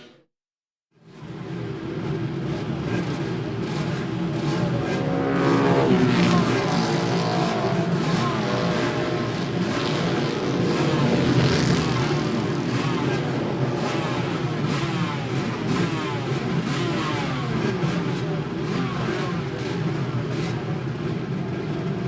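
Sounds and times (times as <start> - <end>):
motorcycle engine revving: 1.2 - 22.0.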